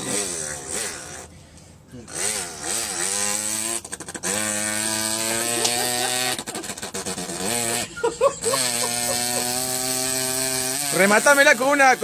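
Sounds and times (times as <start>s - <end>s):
man imitating moped engine: 0.0s - 1.3s, 1.9s - 12.0s.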